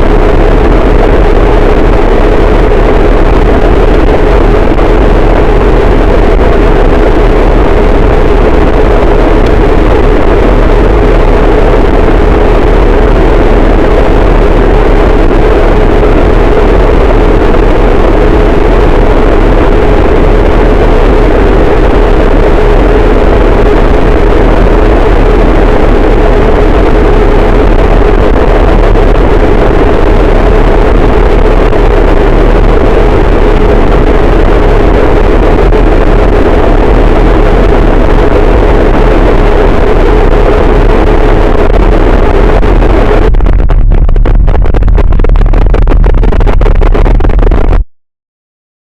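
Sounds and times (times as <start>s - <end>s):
dense distorted noise wall: 0.0s - 48.0s.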